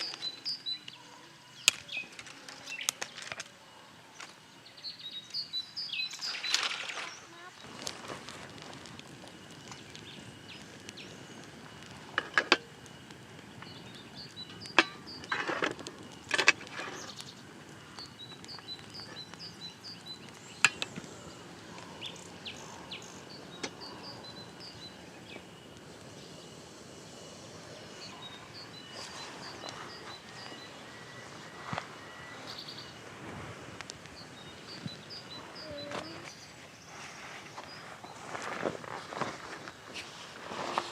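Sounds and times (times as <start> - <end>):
insect drone: 0.0 - 40.9.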